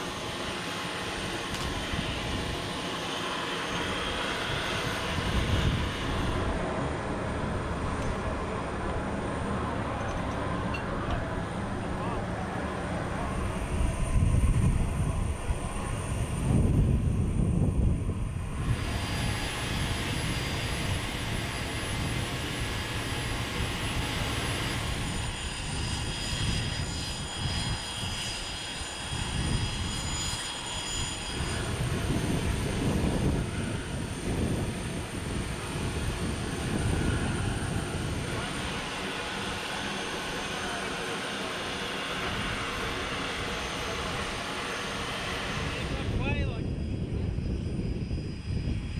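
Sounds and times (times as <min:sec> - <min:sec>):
jet engine rumble and whine: 0:00.0 - 0:48.9.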